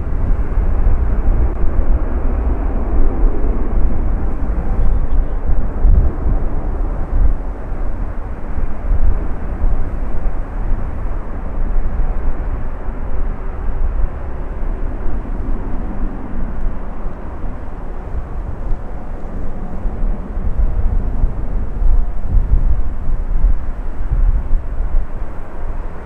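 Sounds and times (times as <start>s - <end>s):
jet airliner engines rumbling: 0.0s - 26.0s
wind buffeting microphone: 0.0s - 26.0s.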